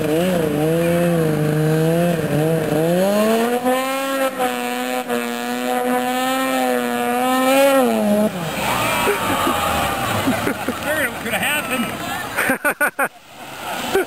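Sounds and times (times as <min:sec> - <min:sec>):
snowmobile engine at full throttle: 0:00.0 - 0:14.0.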